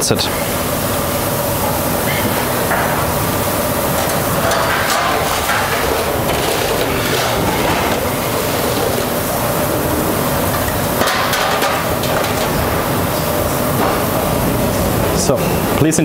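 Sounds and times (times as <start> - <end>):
kitchen rushing hum: 0.0 - 16.0.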